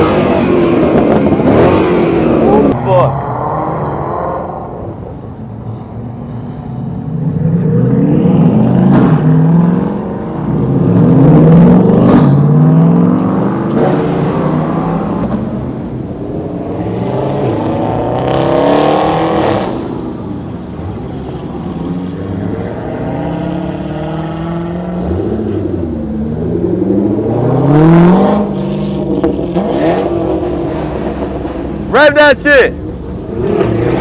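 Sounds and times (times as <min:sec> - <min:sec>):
car engines revving past: 0:00.0 - 0:34.0.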